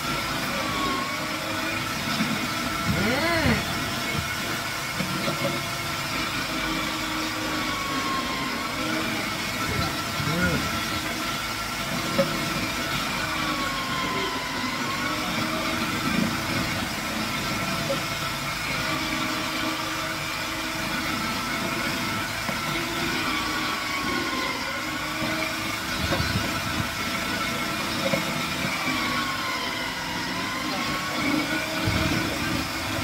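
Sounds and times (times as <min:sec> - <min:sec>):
food processor motor running: 0:00.0 - 0:33.0.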